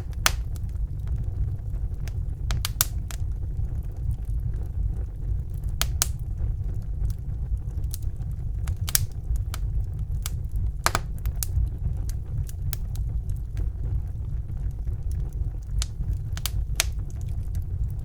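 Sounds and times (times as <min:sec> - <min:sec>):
fire crackling and popping: 0:00.0 - 0:18.0
wood fire burning: 0:00.0 - 0:18.0.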